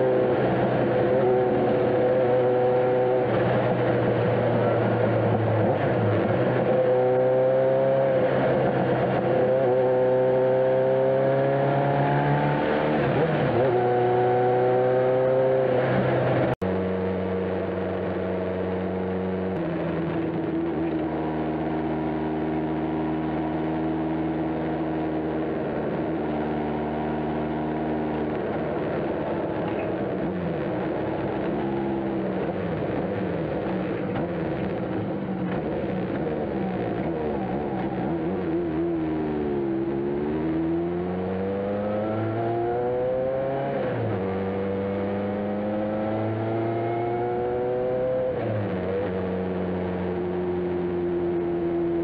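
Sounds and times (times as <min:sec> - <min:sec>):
motorcycle engine riding: 0:00.0 - 0:52.0.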